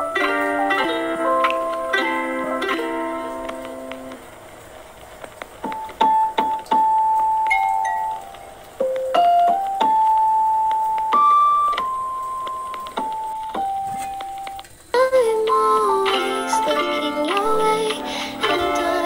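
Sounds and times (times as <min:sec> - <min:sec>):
slow keyboard melody: 0:00.0 - 0:05.0, 0:05.6 - 0:14.8, 0:15.4 - 0:19.0.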